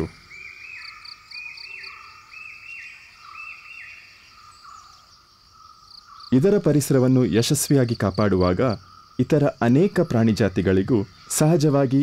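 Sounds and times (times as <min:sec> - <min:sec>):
animals chirping: 0:00.0 - 0:12.0.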